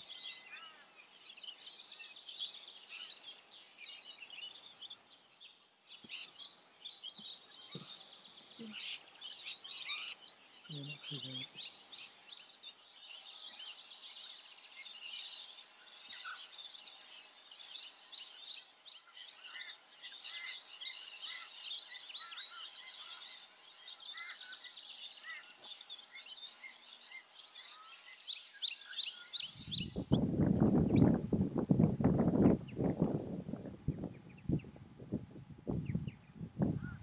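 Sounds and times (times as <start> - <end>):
birds chirping and calling: 0.0 - 34.8, 35.6 - 37.0.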